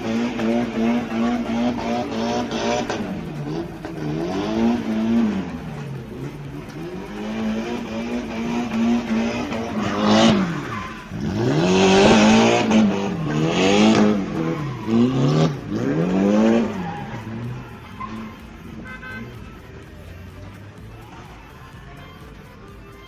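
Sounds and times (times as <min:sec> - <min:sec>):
tyre squeal: 0:00.0 - 0:19.3
car engine revving hard: 0:00.0 - 0:21.0.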